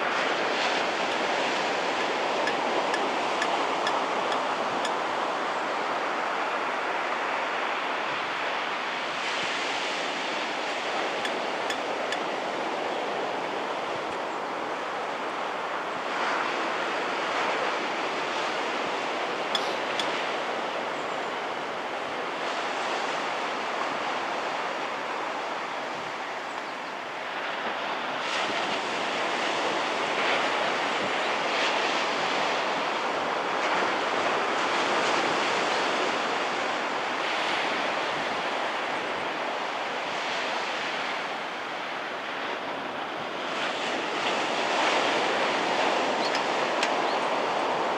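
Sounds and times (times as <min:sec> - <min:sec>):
waves breaking on shore: 0:00.0 - 0:47.9.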